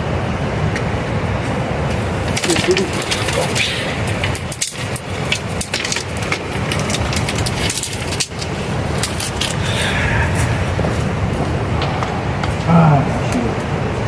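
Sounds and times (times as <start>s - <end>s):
low rushing noise: 0.0s - 14.0s
campfire crackling and popping: 0.8s - 12.7s.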